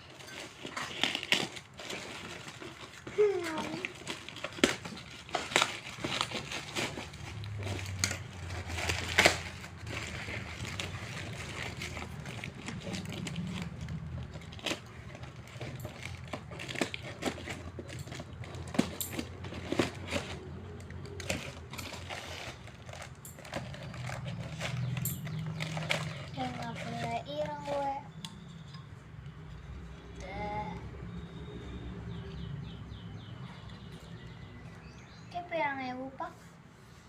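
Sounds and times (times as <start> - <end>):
plastic and cardboard crinkling: 0.0 - 30.0.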